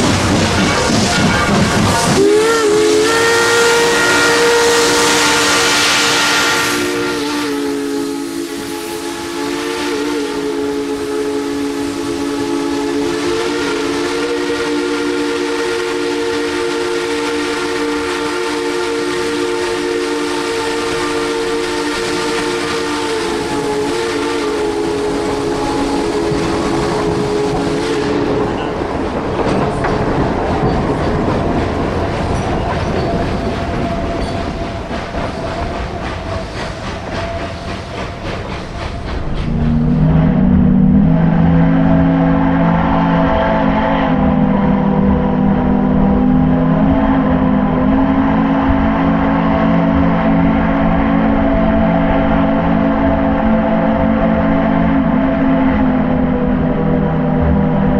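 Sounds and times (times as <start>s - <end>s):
train cars rumbling on rails: 0.0s - 57.9s
steam locomotive chime whistle: 0.7s - 28.8s, 32.4s - 34.8s, 38.9s - 57.9s.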